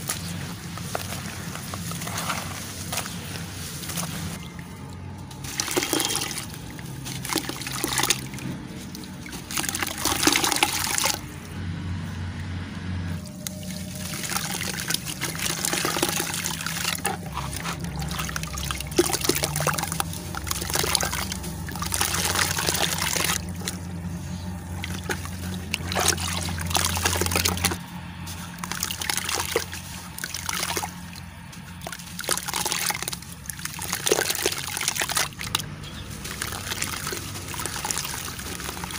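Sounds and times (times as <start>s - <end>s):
water splashing and trickling: 0.0s - 11.6s, 13.0s - 38.9s
gritty crunching and crackling: 0.0s - 38.9s.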